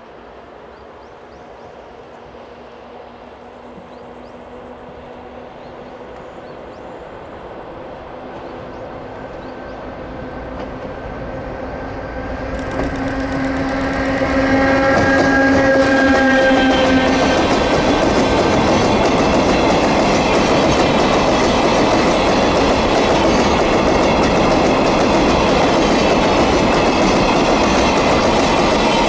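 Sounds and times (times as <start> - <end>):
electric train approaching: 0.0 - 29.0.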